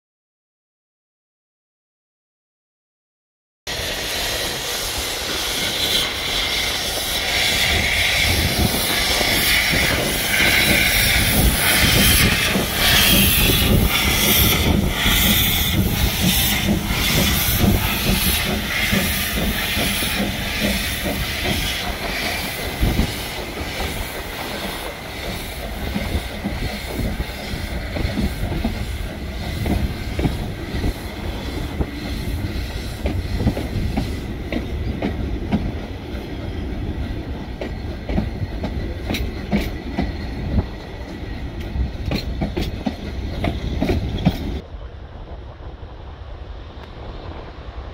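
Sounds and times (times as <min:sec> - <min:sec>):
steam locomotive hissing: 0:03.7 - 0:47.9
train wheels clattering on rails: 0:04.2 - 0:44.6.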